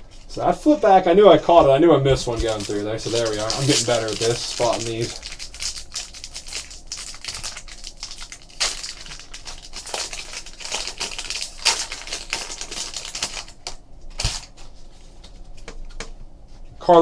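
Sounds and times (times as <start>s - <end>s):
cards snapping and rustling: 2.2s - 16.2s.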